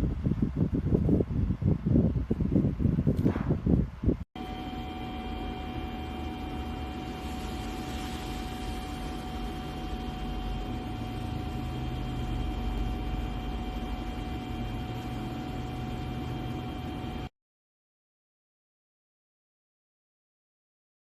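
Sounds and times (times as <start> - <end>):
faint steady hum: 0.0 - 17.3.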